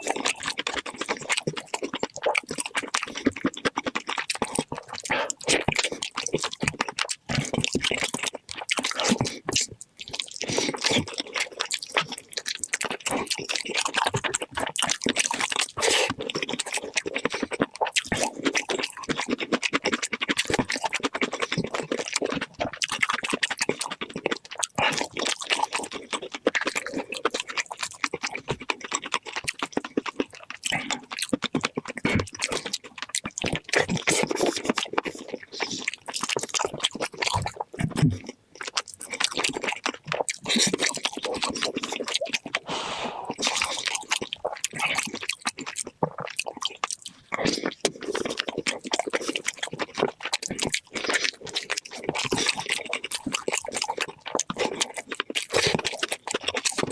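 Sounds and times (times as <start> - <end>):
sped-up chewing and crunching: 0.0 - 56.9.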